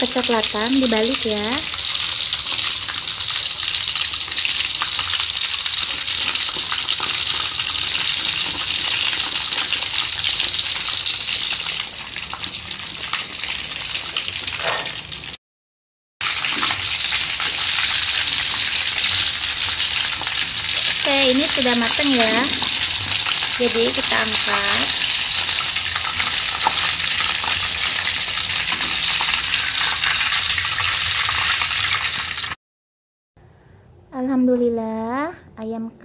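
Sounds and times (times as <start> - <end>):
deep-frying sizzle with crackles: 0.0 - 15.4, 16.2 - 32.6.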